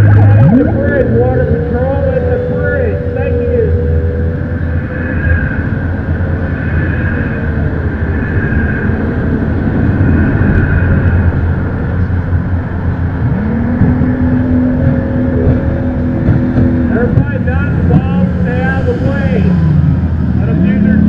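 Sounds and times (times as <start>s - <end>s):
engine rising in pitch: 0.0s - 21.0s
racing jet boat engines: 0.0s - 21.0s.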